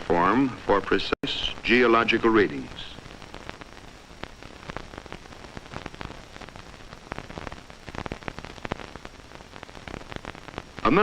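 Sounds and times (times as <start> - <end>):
film soundtrack hiss: 0.0 - 11.0.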